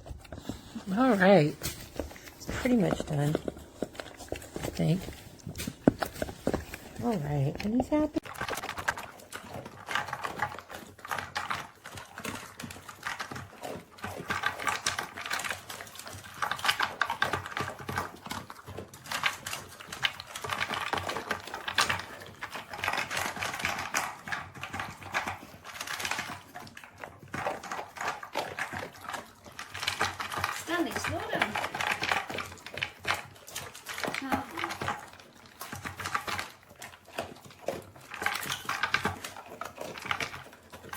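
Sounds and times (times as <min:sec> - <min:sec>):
food clattering in a bowl: 0:00.0 - 0:40.9.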